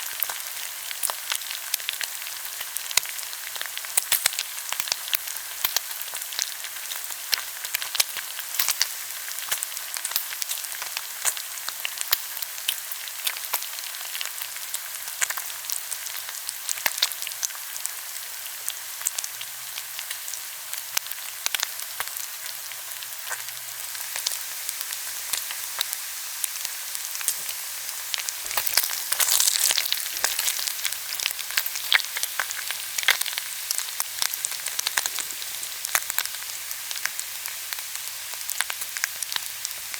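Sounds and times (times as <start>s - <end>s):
pork sizzling on a grill: 0.0s - 39.9s.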